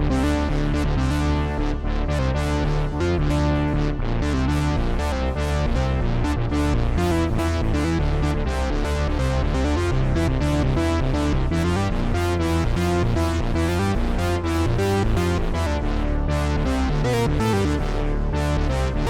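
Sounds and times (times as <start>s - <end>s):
heavy synth bass: 0.0s - 19.0s.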